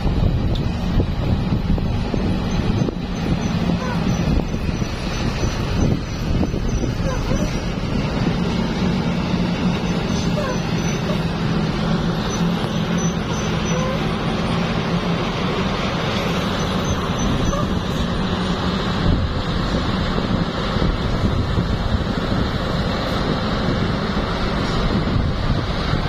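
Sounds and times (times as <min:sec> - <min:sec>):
traffic noise: 0:00.0 - 0:26.0
vehicle engine drone: 0:00.0 - 0:26.0.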